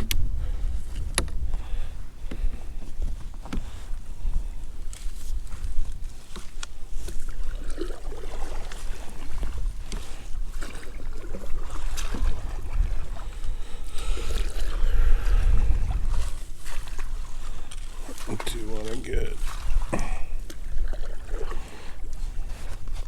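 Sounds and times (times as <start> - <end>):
water slapping against hull: 0.0 - 23.0
wind buffeting microphone: 0.0 - 23.0.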